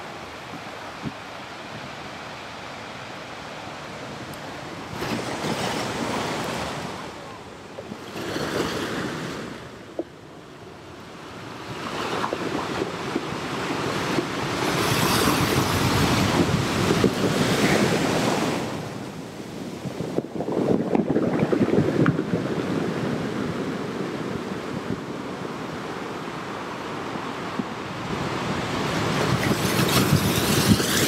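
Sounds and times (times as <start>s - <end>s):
ocean waves washing in: 0.0s - 31.0s.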